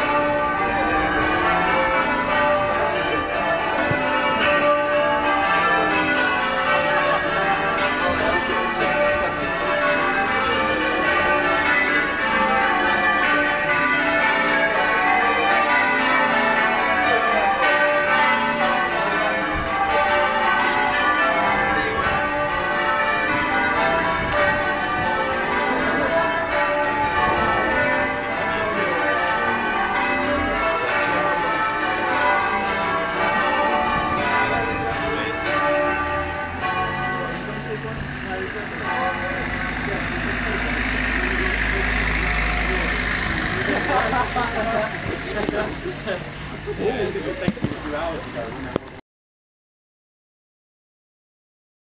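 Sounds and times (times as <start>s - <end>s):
tower bells change ringing: 0.0s - 48.7s.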